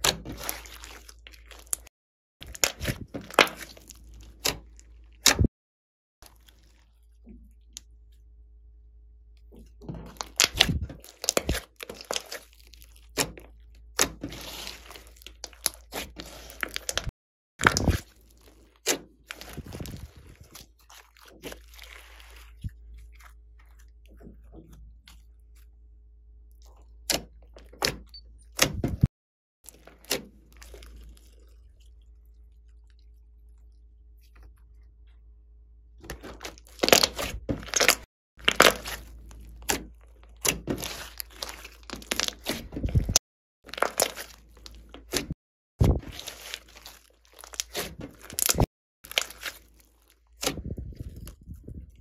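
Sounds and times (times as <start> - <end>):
slime squishing and crackling: 0.0 - 5.4, 6.2 - 8.0, 10.1 - 25.8, 29.7 - 35.0, 36.0 - 52.0.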